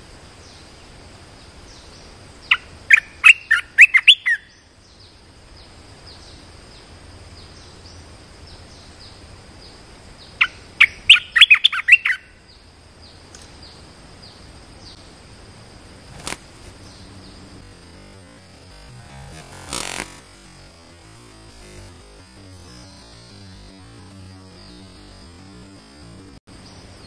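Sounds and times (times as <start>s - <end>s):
bird singing chirpy phrases: 1.6s - 15.0s, 16.2s - 27.0s.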